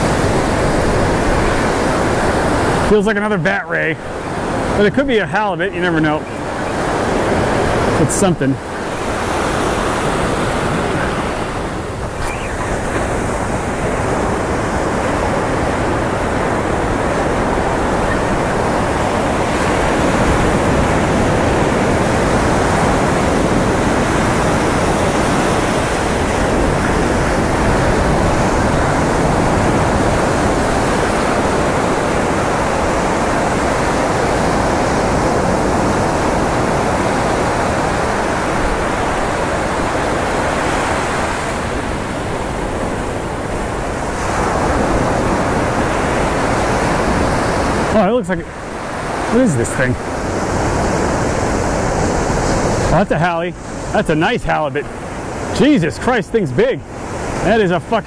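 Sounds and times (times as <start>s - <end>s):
ocean surf breaking on beach: 0.0s - 58.0s.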